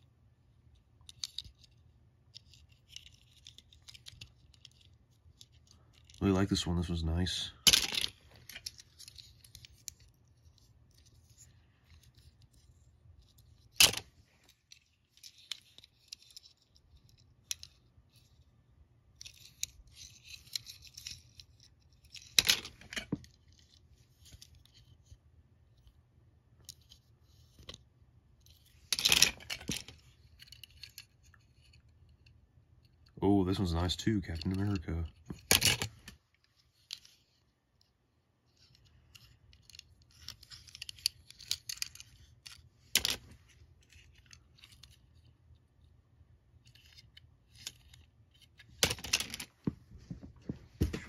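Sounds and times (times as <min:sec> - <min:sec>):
toy cars clicking and rustling: 0:00.7 - 0:18.5, 0:19.1 - 0:25.2, 0:26.6 - 0:37.9, 0:38.5 - 0:45.4, 0:46.6 - 0:50.2.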